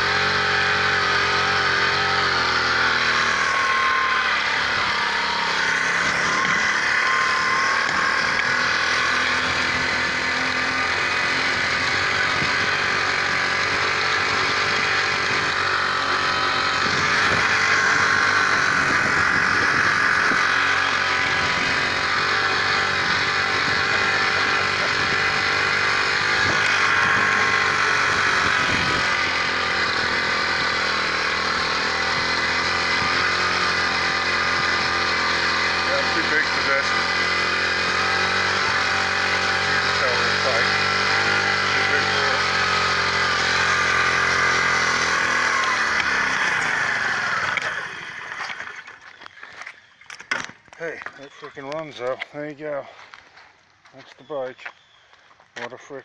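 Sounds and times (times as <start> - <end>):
minibike engine running: 0.0 - 55.1.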